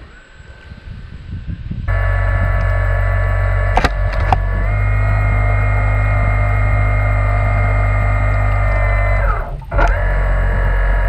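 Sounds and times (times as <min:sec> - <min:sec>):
electric motors humming and whining: 0:00.0 - 0:11.0
sharp clicks: 0:01.9 - 0:11.0.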